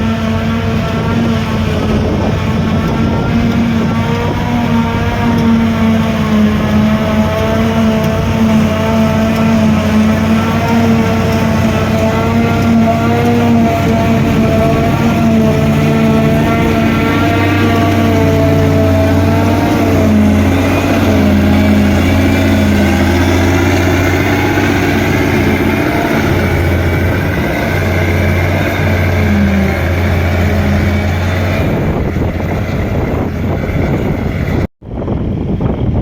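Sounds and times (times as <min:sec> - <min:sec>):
forage harvester engine drone: 0:00.0 - 0:36.0.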